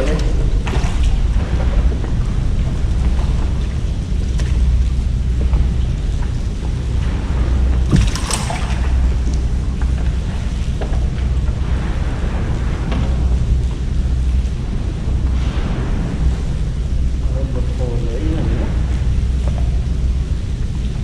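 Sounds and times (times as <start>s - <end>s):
water sloshing against boat: 0.0s - 17.8s
steady low rumble: 0.0s - 21.0s.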